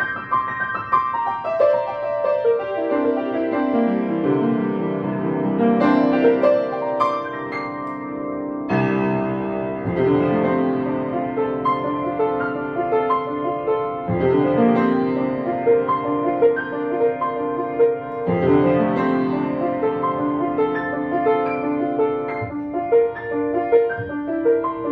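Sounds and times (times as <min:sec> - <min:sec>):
grand piano playing classical piece: 0:00.0 - 0:24.9.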